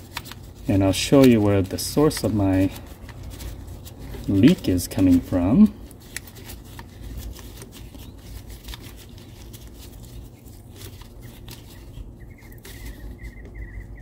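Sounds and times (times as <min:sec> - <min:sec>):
small clicks and rubbing: 0:00.0 - 0:13.6
low steady hum: 0:00.0 - 0:14.0.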